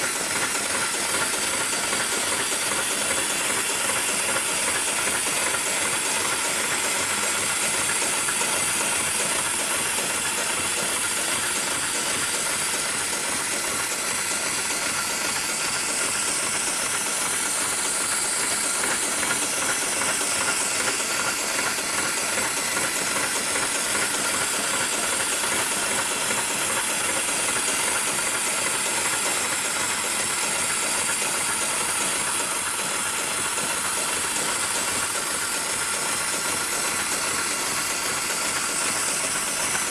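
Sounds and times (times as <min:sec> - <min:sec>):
sewing machine running: 0:00.0 - 0:39.9.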